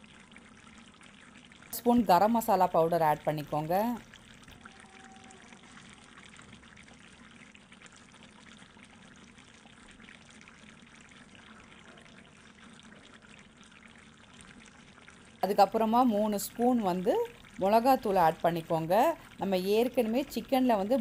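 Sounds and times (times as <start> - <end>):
chicken frying in oil: 0.0 - 21.0.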